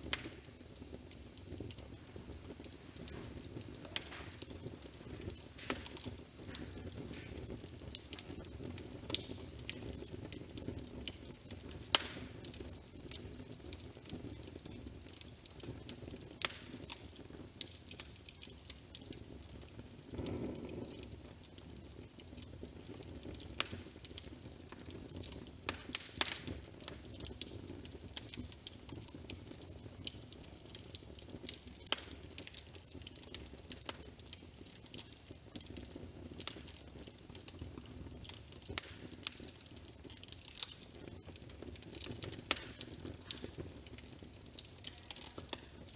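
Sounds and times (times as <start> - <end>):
fire crackling and popping: 0.0 - 45.9.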